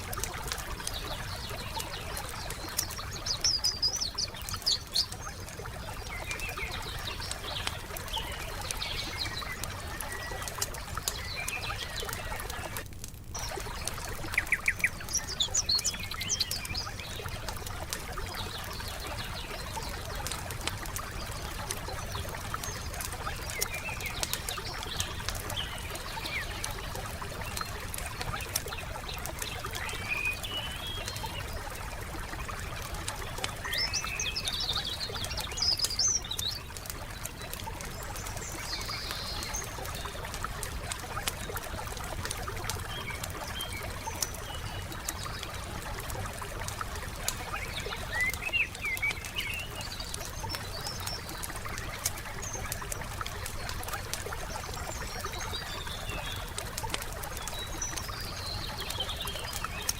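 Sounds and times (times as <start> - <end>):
songbirds chirping: 0.0 - 59.9
wood fire crackling: 0.0 - 59.9.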